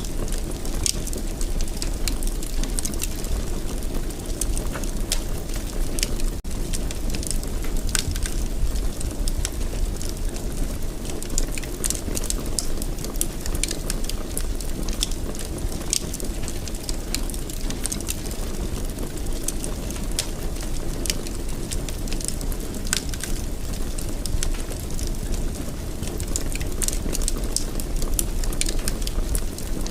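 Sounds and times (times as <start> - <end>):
fireplace fire crackling: 0.0 - 29.9.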